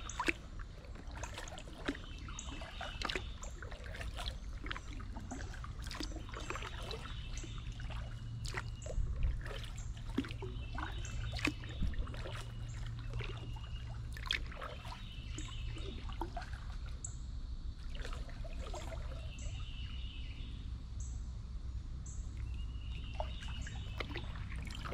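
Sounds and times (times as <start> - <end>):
birds singing: 0.0 - 17.2, 18.0 - 21.2, 22.0 - 24.9
water dripping from paddle: 0.0 - 19.9, 22.2 - 24.9.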